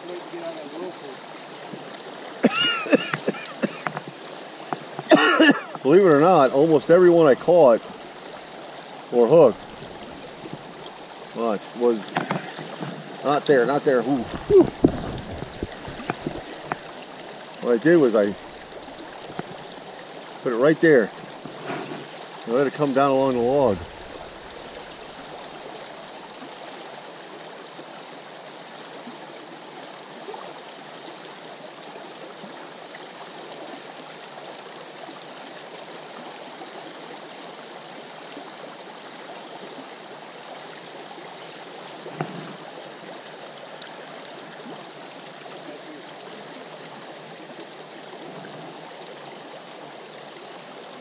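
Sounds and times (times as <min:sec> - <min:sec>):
creek water flowing: 0:00.0 - 0:51.0.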